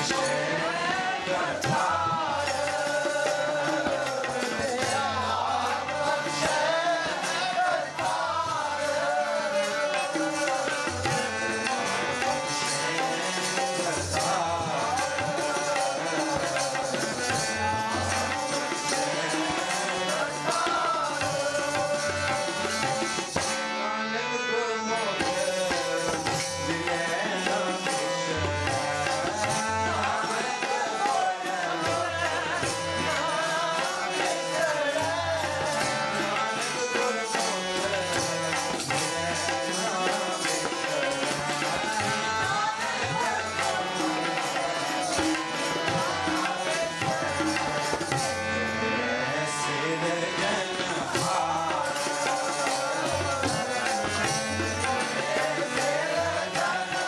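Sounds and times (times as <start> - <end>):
voices singing a hymn: 0.0 - 24.1, 25.1 - 57.0
harmoniums playing chords: 0.0 - 57.0
tabla rhythm: 0.0 - 57.0.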